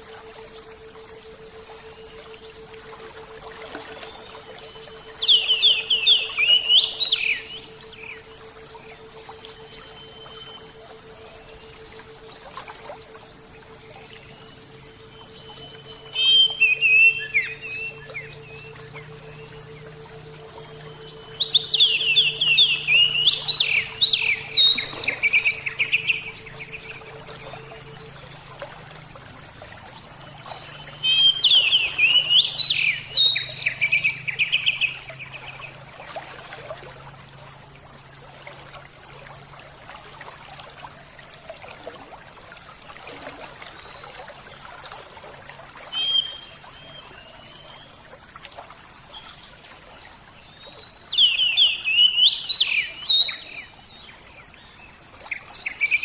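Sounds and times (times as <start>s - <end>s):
songbird singing: 0.0s - 36.2s, 45.5s - 48.1s, 49.0s - 56.0s.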